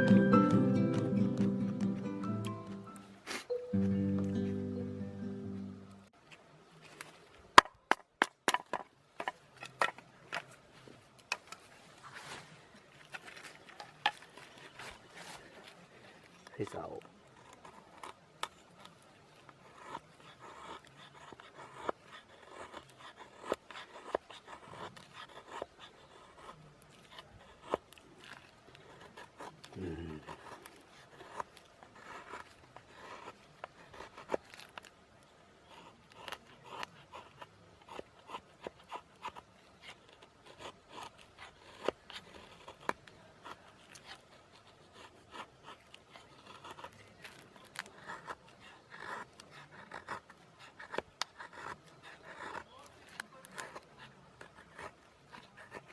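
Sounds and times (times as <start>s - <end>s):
knife shaving wood: 6.8s - 55.9s.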